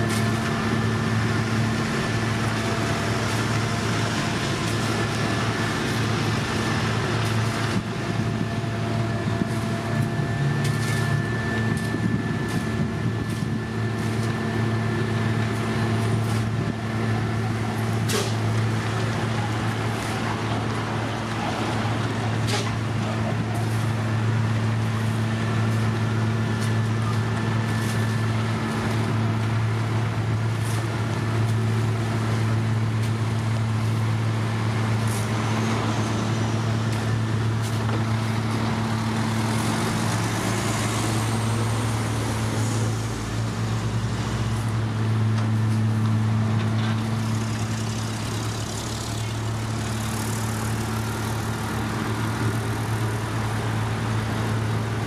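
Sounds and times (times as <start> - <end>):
diesel machinery humming: 0.0 - 55.0.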